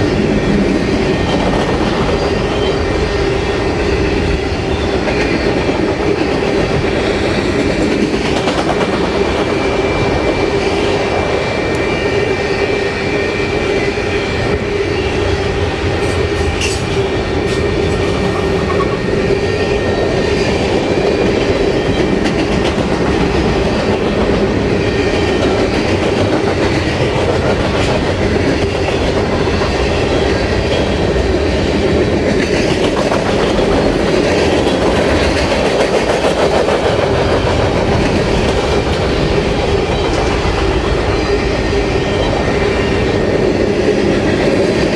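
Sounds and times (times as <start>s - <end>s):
freight cars rolling on rails: 0.0s - 44.9s.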